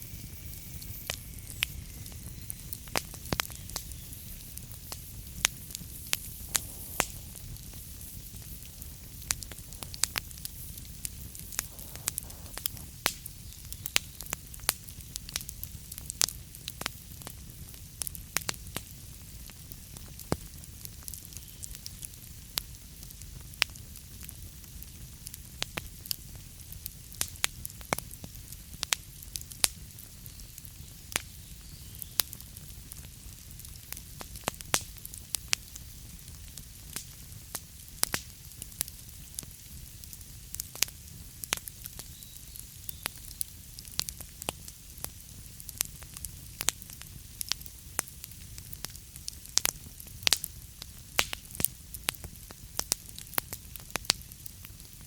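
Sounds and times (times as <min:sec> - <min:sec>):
fire rumbling and hissing: 0:00.0 - 0:55.0
logs crackling and popping: 0:00.0 - 0:55.0.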